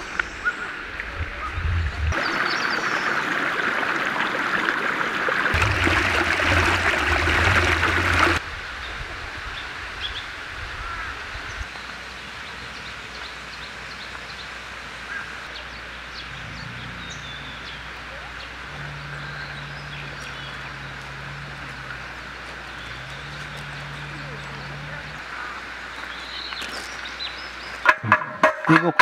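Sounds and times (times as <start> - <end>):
stream water rushing: 0.0 - 8.6, 11.7 - 29.0
forest ambience: 0.0 - 29.0.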